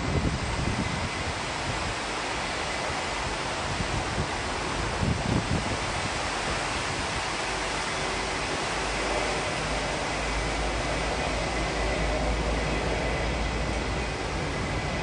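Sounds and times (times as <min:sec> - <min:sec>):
jet engines running: 0:00.0 - 0:15.0
wind buffeting microphone: 0:00.0 - 0:15.0.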